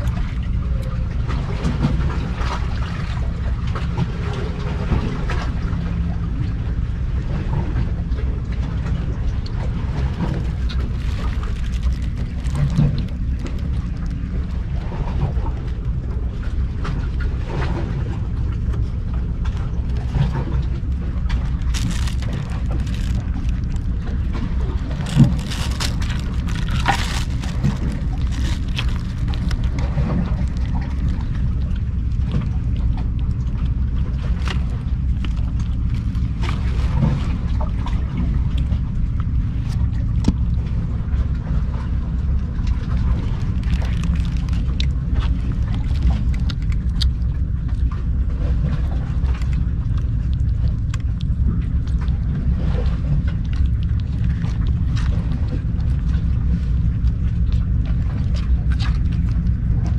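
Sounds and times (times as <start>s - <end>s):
low rumble: 0.0s - 59.9s
kittens chewing and lapping food: 8.8s - 59.9s.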